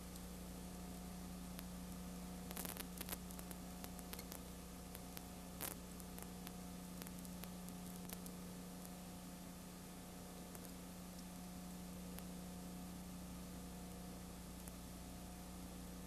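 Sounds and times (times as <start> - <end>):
crackles: 0.0 - 16.0
low electrical hum: 0.0 - 16.0
static hiss: 0.0 - 16.0.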